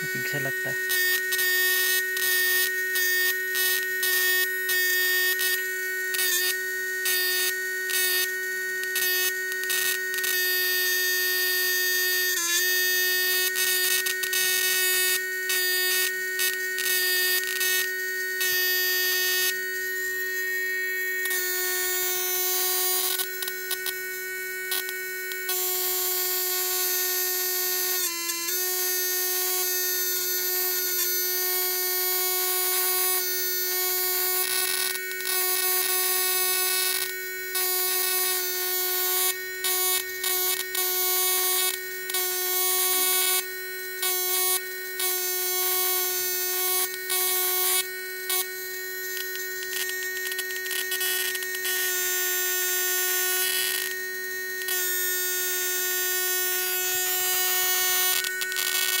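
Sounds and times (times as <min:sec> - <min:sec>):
high-pitched electrical buzz: 0:00.0 - 0:59.0.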